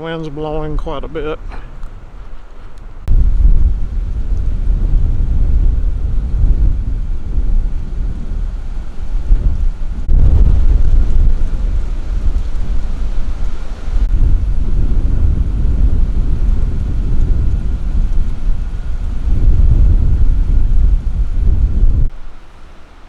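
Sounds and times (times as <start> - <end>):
gusty wind buffeting microphone: 0.0 - 23.0.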